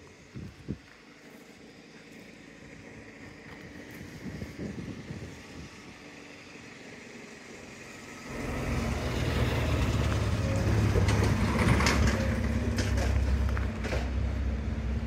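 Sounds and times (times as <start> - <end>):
heavy vehicle rumble: 0.0 - 15.0.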